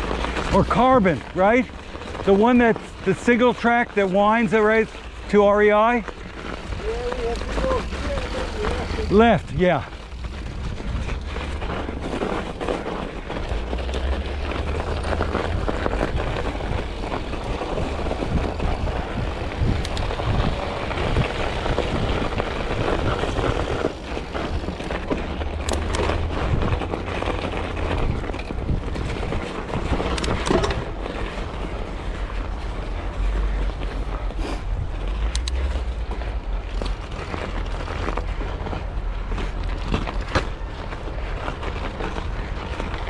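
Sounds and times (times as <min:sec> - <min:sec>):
bike rattling and knocking: 0:00.0 - 0:43.0
bike tyres on rough trail: 0:00.0 - 0:43.0
wind rumble on microphone: 0:04.8 - 0:43.0.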